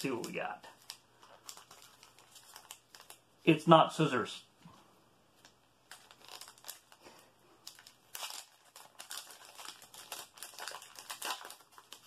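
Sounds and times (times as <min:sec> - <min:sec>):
foil wrapper crinkling and tearing: 0:00.0 - 0:03.2, 0:05.4 - 0:12.0.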